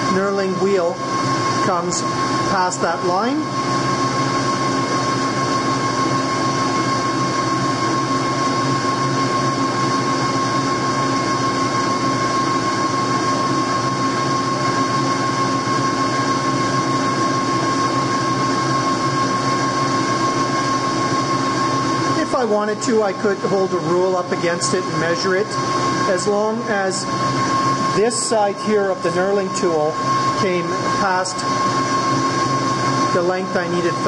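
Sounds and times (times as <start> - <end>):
high steady whine: 0.0 - 34.0
metal lathe humming: 0.0 - 34.0.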